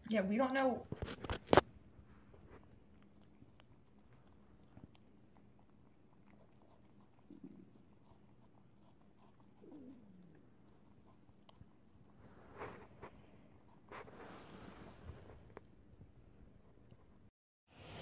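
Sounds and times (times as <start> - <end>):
cat licking and chewing: 0.2 - 17.3.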